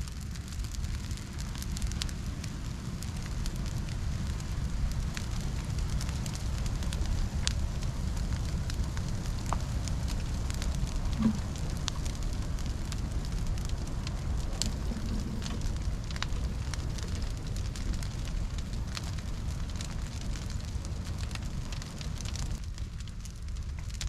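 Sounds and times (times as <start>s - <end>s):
fire crackling and popping: 0.0s - 24.0s
fire rumbling: 0.0s - 24.0s.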